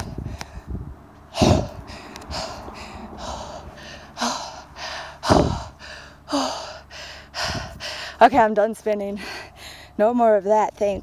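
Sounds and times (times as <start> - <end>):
person breathing hard: 0.0 - 8.2, 9.2 - 10.0.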